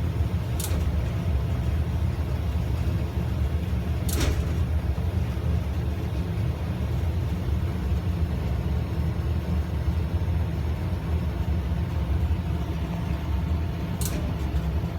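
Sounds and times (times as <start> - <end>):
furnace blower rumbling: 0.0 - 14.9.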